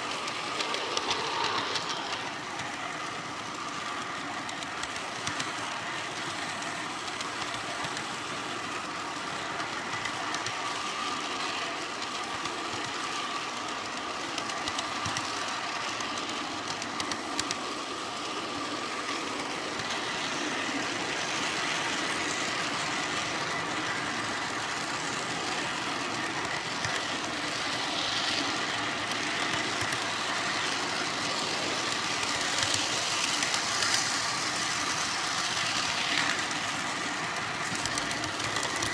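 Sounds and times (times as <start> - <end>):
small wheels rattling on rail: 0.0 - 38.9.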